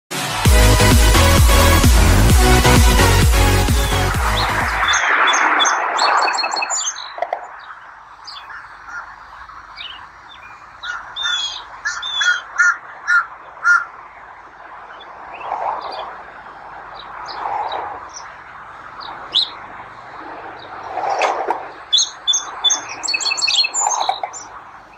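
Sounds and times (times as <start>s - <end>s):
birds chirping: 1.0s - 24.9s
lower rough bird calls: 3.8s - 21.0s, 21.7s - 24.9s.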